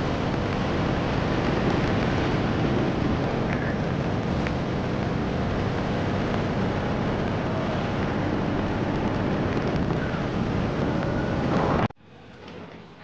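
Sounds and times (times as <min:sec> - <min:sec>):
wind over microphone: 0:00.0 - 0:11.9
road and traffic noise: 0:00.0 - 0:13.0.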